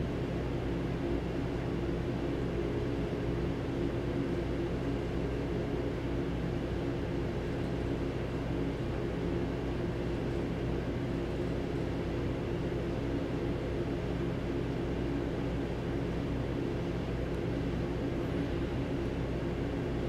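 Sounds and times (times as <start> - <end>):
train mechanical hum: 0.0 - 20.0.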